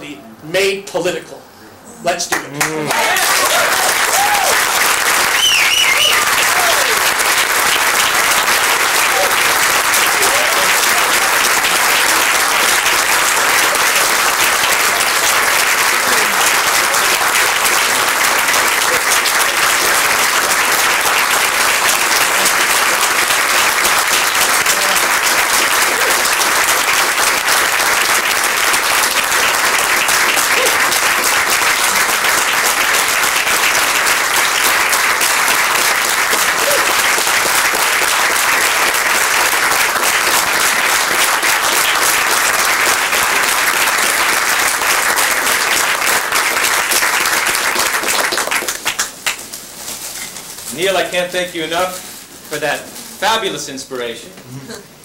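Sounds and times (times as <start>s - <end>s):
audience applauding: 2.3s - 49.6s.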